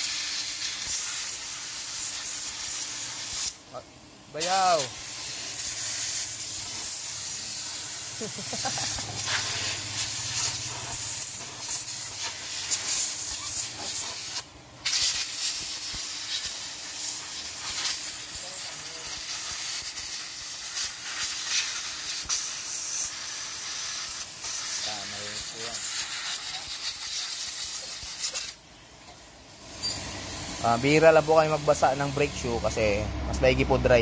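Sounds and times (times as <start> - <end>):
pressurised spray hissing: 0.0 - 33.6.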